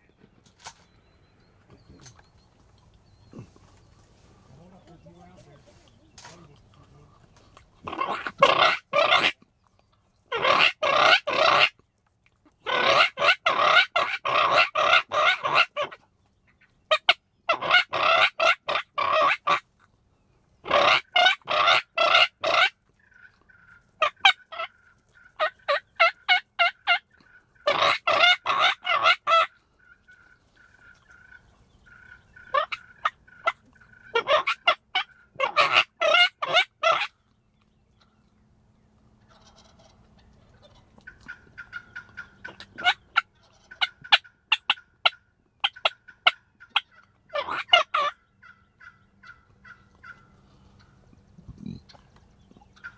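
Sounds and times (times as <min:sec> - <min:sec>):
turkey gobbling: 0:07.0 - 0:09.5, 0:10.3 - 0:11.8, 0:12.4 - 0:19.7, 0:20.6 - 0:38.3, 0:39.2 - 0:52.9.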